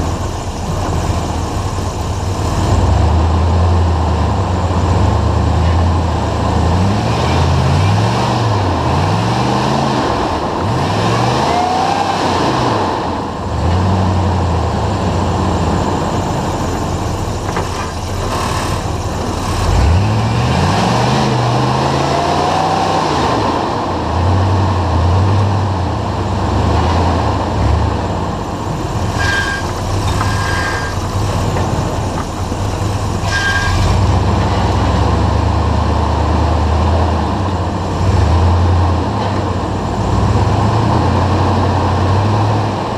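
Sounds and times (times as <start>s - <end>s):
off-road engine revving: 0.0s - 42.9s.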